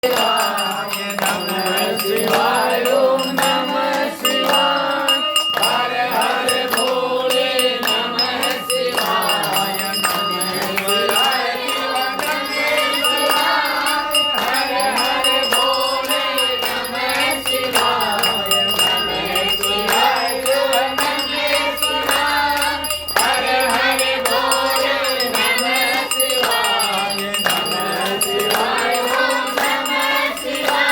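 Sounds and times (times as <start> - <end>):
devotional chanting: 0.0 - 30.9
high ringing tone: 0.2 - 30.9.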